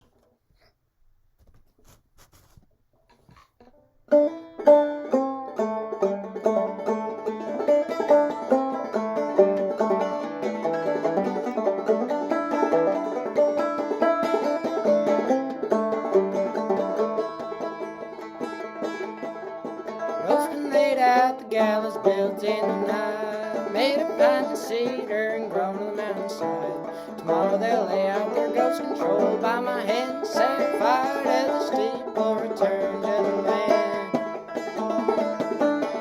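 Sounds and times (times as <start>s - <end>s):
banjo plucked notes: 3.7s - 36.0s.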